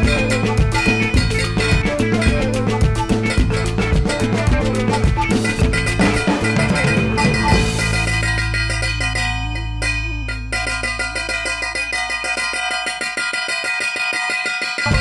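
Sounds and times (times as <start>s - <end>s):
held low note: 0.0s - 12.8s
fast percussive ticking: 0.0s - 15.0s
latin-style music with drum beat: 0.0s - 15.0s.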